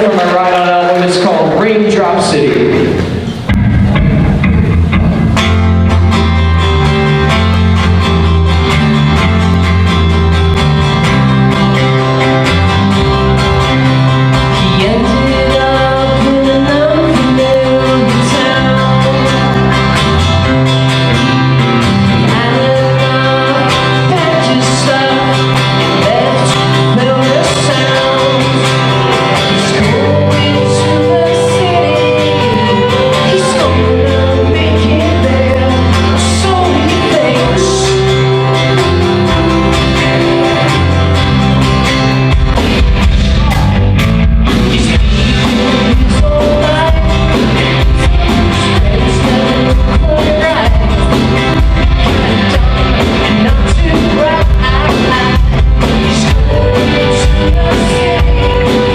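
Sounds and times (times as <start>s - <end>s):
guitar: 0.0s - 58.9s
held bass notes: 0.0s - 58.9s.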